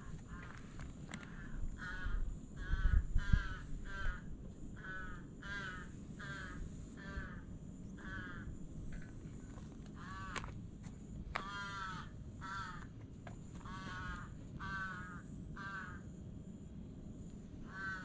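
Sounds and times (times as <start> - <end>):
crow cawing: 0.0 - 10.6, 11.3 - 16.1, 17.6 - 18.0.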